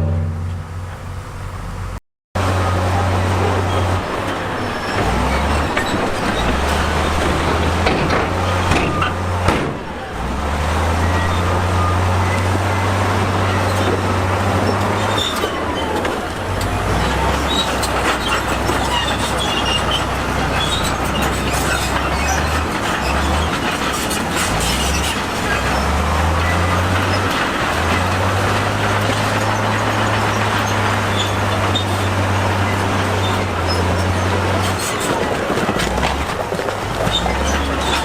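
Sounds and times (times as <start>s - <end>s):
bulldozer diesel engine: 0.0s - 38.0s
steel tracks clanking: 0.0s - 38.0s.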